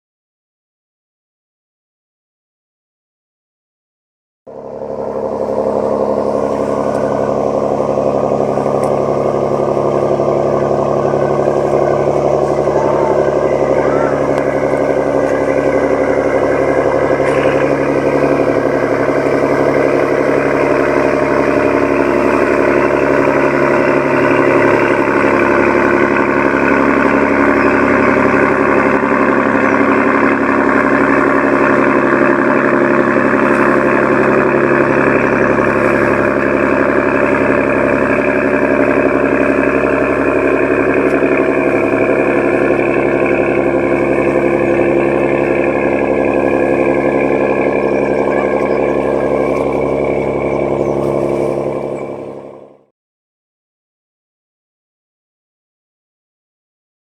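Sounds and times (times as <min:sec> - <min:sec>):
boat diesel engine roaring: 0:04.5 - 0:52.9.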